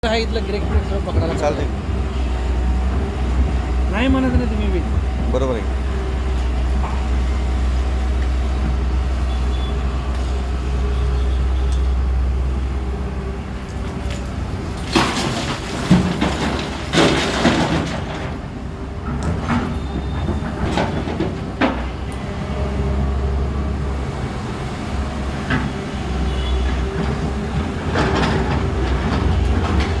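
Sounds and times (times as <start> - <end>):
excavator diesel engine rumbling: 0.0 - 30.0.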